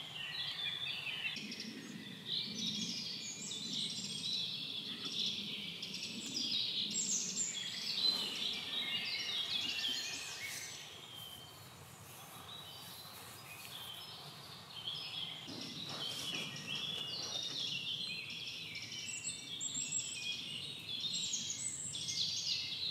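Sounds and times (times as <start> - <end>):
songbirds singing: 0.0 - 22.9.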